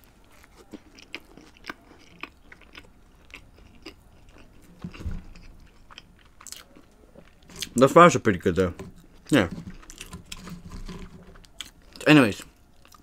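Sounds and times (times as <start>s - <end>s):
chewing crispy food: 0.0s - 13.0s.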